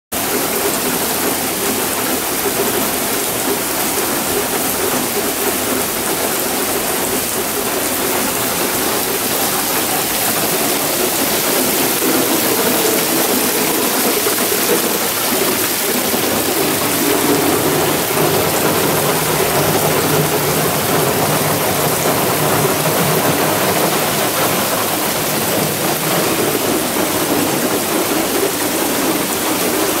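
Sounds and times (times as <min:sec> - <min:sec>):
rain falling: 0:00.1 - 0:30.0
water pouring down stone wall: 0:00.1 - 0:30.0
water splashing on tiles: 0:00.2 - 0:30.0.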